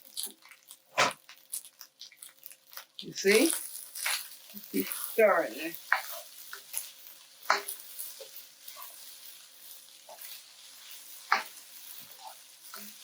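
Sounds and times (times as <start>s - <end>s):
rice sizzling in a wok: 0.0s - 13.0s.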